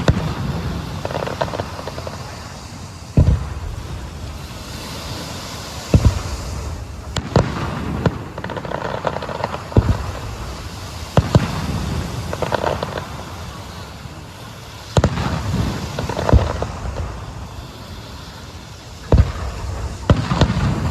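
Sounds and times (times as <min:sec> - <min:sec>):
fireworks booming: 0:00.0 - 0:20.9
fireworks crackling: 0:00.0 - 0:20.9.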